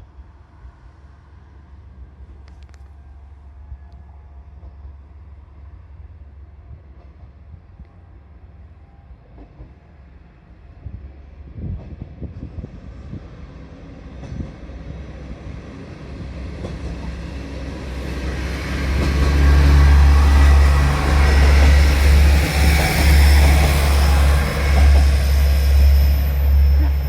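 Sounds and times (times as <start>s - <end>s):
train rumble and rail noise: 0.0s - 27.0s.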